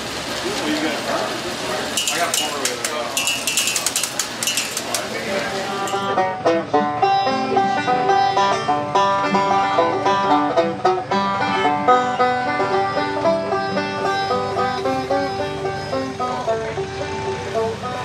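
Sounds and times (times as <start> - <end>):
acoustic guitar strumming: 1.9 - 18.0
banjo picking: 2.0 - 18.0.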